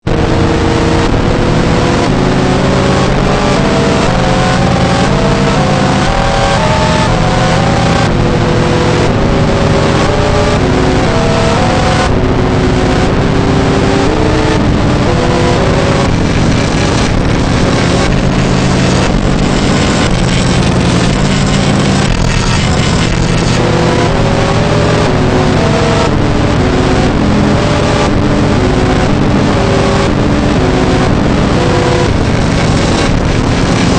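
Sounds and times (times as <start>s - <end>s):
distorted electronic alarm tones: 0.0s - 33.9s
harsh constant noise: 0.0s - 33.9s
steady low tones: 0.0s - 33.9s.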